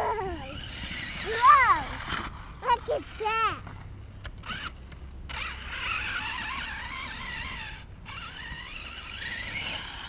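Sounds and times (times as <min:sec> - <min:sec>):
toy truck motor revving: 0:00.0 - 0:03.7, 0:04.4 - 0:10.0.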